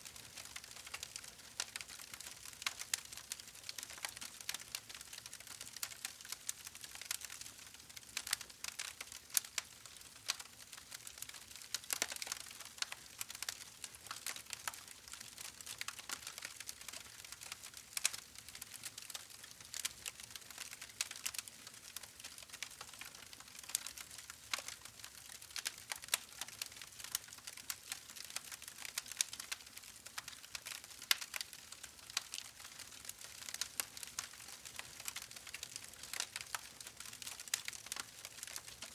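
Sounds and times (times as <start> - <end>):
soft steady hiss: 0.0 - 38.9
fire crackling and popping: 0.1 - 38.9.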